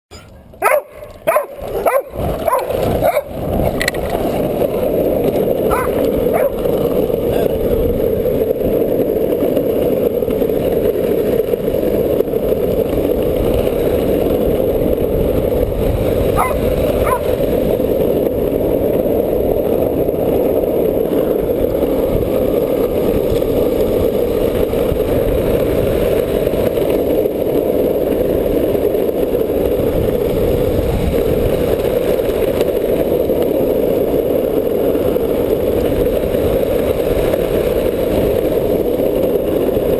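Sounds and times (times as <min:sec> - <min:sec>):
skateboard wheels rolling on asphalt: 0:00.2 - 0:39.9.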